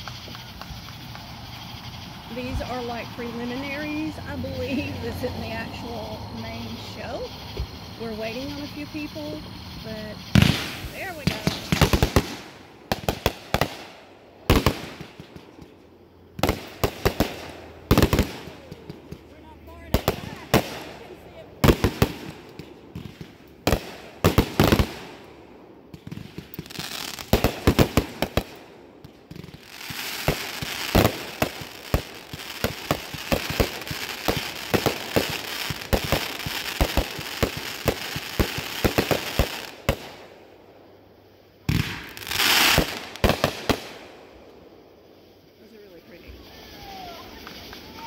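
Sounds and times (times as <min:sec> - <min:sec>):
fireworks bursting and crackling: 0:00.0 - 0:48.0.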